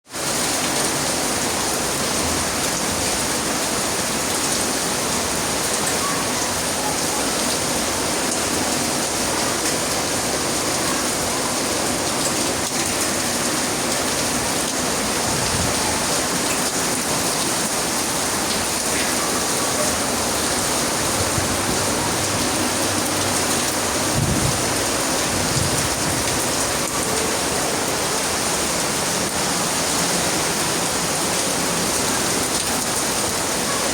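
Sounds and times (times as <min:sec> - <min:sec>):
heavy rain pattering: 0:00.1 - 0:33.9.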